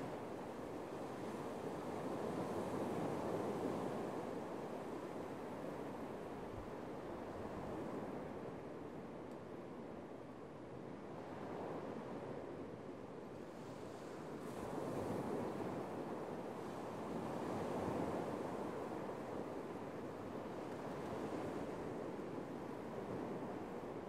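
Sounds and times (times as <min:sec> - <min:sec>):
surf washing up a beach: 0:00.0 - 0:09.2, 0:11.0 - 0:24.0.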